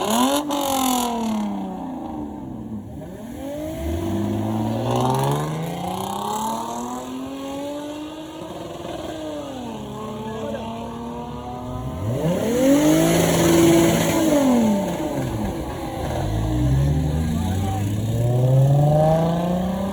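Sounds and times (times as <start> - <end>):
car engine revving and accelerating: 0.0 - 19.9.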